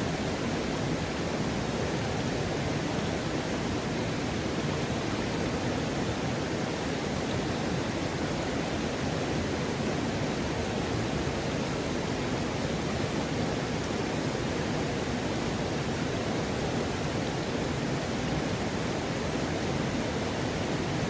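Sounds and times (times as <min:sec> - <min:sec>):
waterfall rushing water: 0:00.0 - 0:21.0.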